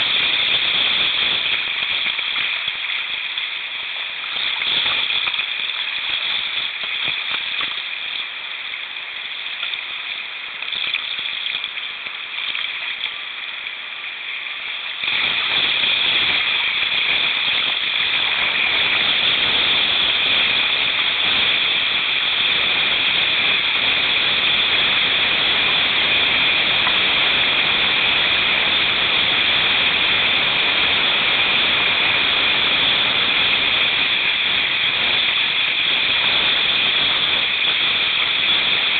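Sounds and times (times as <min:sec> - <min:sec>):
water rushing over rapids: 0:00.0 - 0:38.9.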